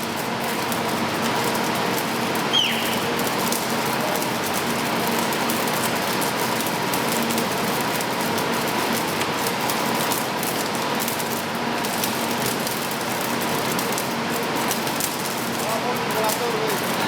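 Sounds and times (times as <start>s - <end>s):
faint machine hum: 0.0s - 17.0s
rail welder crackling and sizzling: 0.0s - 17.0s.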